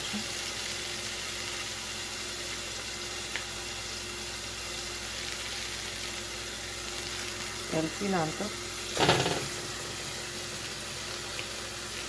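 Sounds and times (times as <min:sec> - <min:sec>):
oil sizzling in a saucepan: 0:00.0 - 0:12.0.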